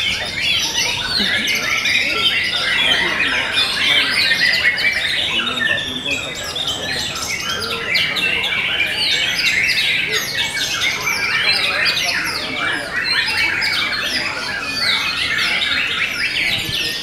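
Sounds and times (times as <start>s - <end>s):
birds singing whistles and trills: 0.0s - 17.0s.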